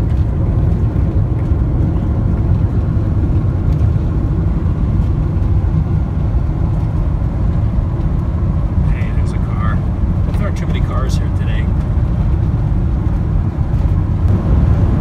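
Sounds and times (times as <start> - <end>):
road and wind noise in vehicle: 0.0 - 15.0.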